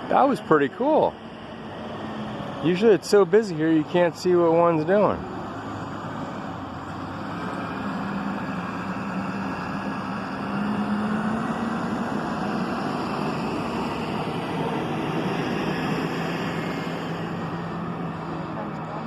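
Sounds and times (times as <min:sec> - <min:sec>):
low engine drone: 0:00.0 - 0:19.0
traffic hum: 0:00.0 - 0:19.0.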